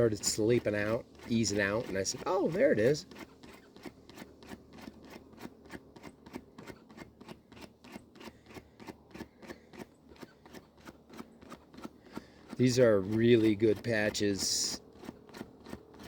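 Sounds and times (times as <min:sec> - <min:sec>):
scuffer scraping rubber inner tube: 0:00.0 - 0:16.0.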